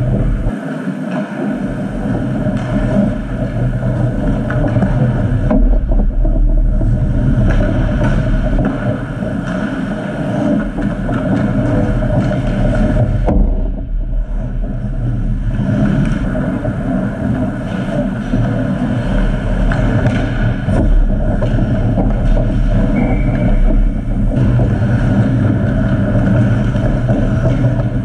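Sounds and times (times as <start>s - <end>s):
low rink rumble: 0.0s - 28.0s.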